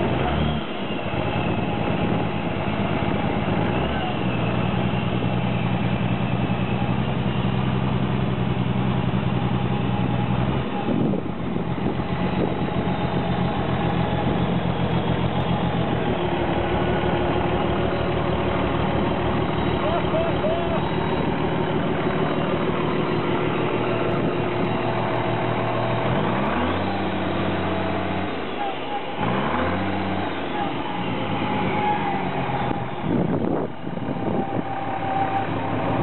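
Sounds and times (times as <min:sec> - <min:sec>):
old truck engine idling: 0:00.0 - 0:36.0.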